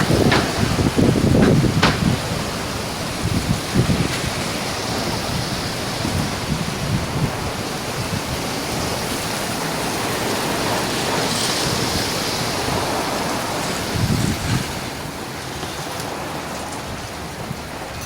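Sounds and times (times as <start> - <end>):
storm wind rushing: 0.0 - 15.2
rain: 0.0 - 18.0.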